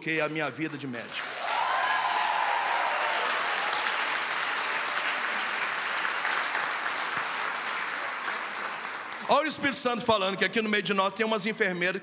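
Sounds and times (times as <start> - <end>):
congregation applauding: 0.6 - 10.3.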